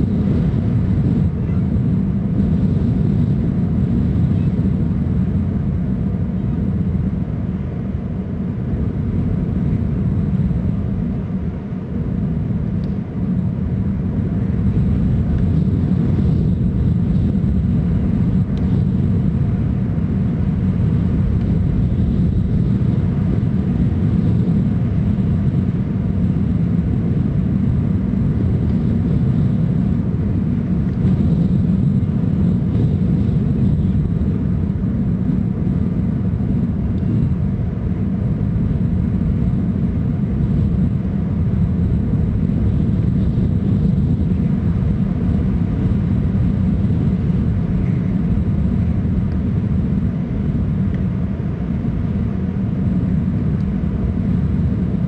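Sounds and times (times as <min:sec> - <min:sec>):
low rumbling noise: 0:00.0 - 0:55.0.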